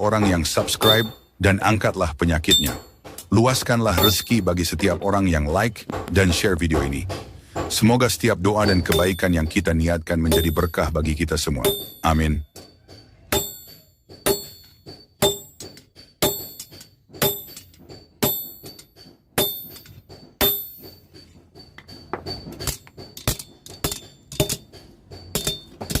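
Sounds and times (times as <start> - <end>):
hammer striking metal: 0.0 - 26.0.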